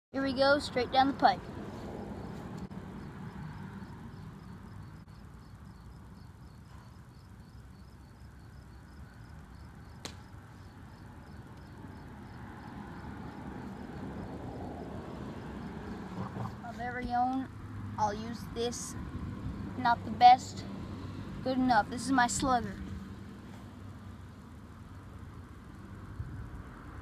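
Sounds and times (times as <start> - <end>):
faint outdoor background noise: 0.1 - 27.0.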